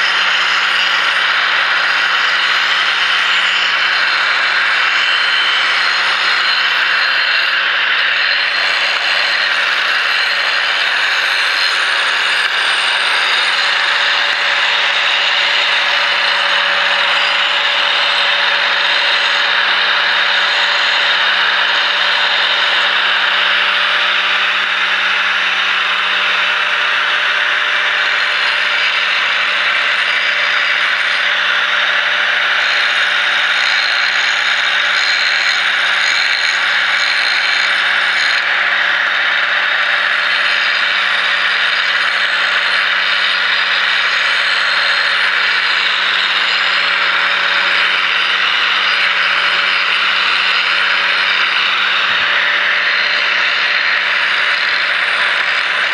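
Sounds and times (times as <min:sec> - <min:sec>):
angle grinder grinding steel: 0:00.0 - 0:55.9.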